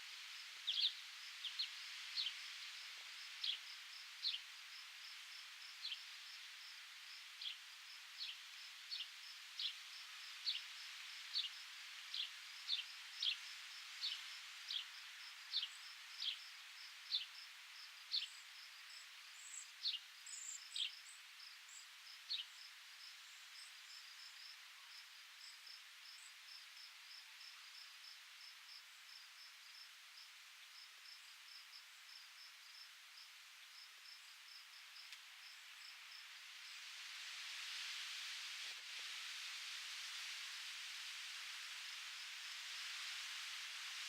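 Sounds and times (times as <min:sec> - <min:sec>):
wind hiss: 0:00.0 - 0:44.0.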